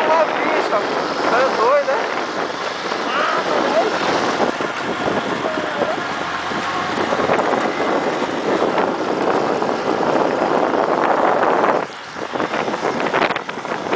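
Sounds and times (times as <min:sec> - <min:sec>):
vehicle noise: 0:00.0 - 0:13.9
wind buffeting microphone: 0:00.0 - 0:13.9.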